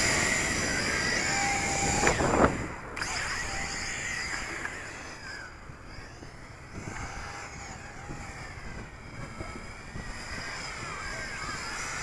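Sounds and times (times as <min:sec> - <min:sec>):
drone motors whining: 0:00.0 - 0:12.0
wind buffeting microphone: 0:00.0 - 0:12.0.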